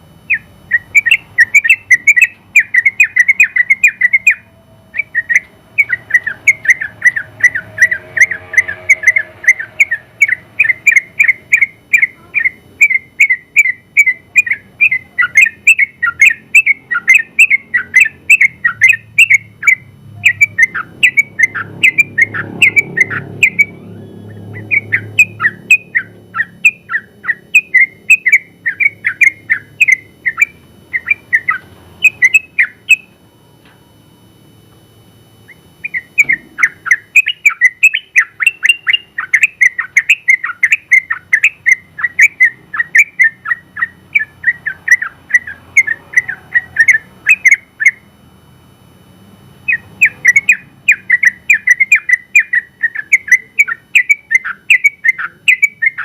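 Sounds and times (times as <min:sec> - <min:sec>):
bird singing rapid chirps: 0:00.0 - 0:33.2, 0:35.4 - 0:48.1, 0:49.6 - 0:56.0.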